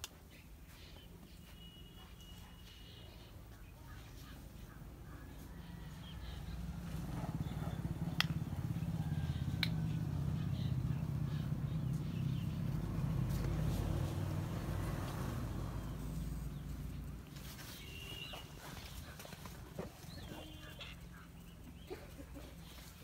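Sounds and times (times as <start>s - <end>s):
low engine hum: 3.4s - 23.0s.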